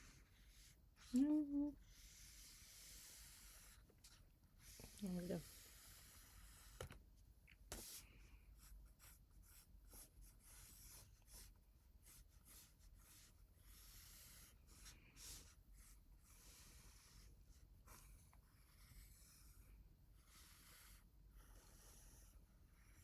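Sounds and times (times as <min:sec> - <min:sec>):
pencil scratching on paper: 0:00.0 - 0:03.9, 0:04.6 - 0:07.0, 0:07.7 - 0:23.0.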